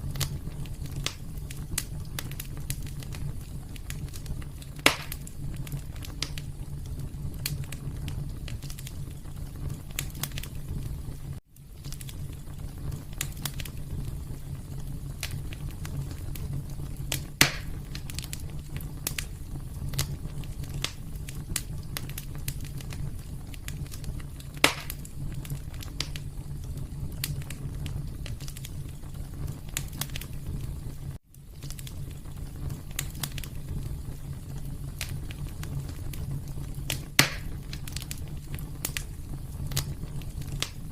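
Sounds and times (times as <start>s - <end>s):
fire popping: 0.0s - 40.9s
wood fire crackling: 0.0s - 40.9s.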